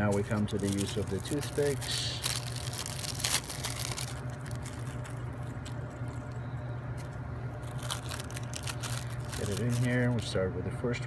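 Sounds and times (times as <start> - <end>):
steady low hum: 0.0 - 11.0
small objects clicking and crackling: 0.1 - 6.4, 7.0 - 10.2.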